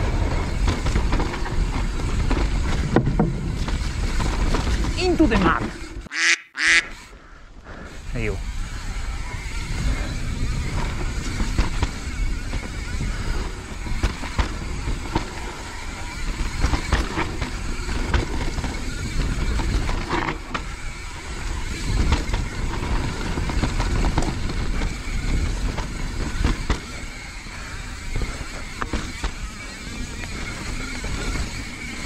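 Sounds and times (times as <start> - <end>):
bike knocks and rattles: 0.0 - 6.1, 8.5 - 32.0
rumble of bike tyres: 0.0 - 32.0.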